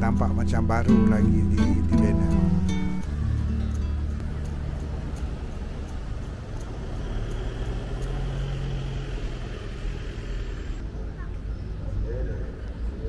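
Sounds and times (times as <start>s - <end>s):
vehicle engine hum: 0.0s - 11.4s
road traffic rumble: 0.0s - 13.0s.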